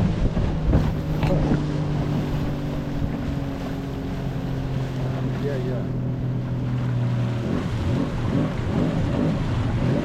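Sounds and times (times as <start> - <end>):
small boat motor running: 0.0 - 10.0
wind buffeting microphone: 0.0 - 10.0.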